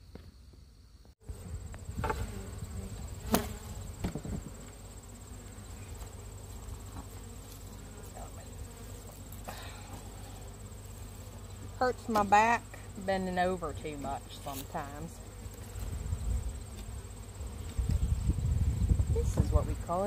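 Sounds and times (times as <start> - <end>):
bees buzzing: 1.2 - 20.0.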